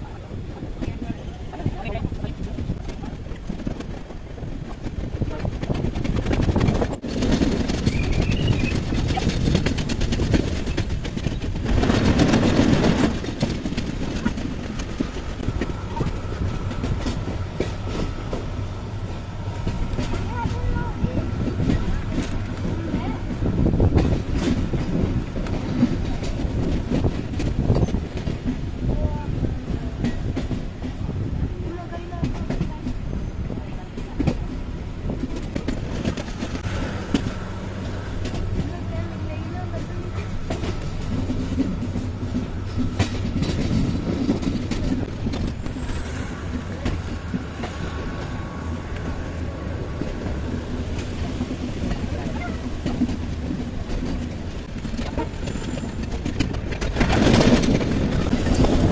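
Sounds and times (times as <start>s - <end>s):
train rumbling on rails: 0.0s - 58.9s
wheels clacking over track: 0.5s - 58.9s.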